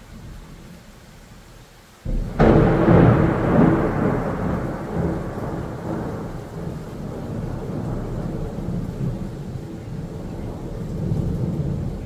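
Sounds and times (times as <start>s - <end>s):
steady rain: 0.0s - 12.0s
thunder crack and rumble: 2.0s - 12.0s.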